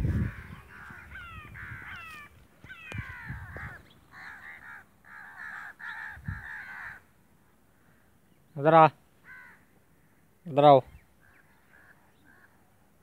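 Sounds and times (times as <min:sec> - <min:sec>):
bird harsh calls: 0:00.1 - 0:07.1, 0:07.8 - 0:12.7.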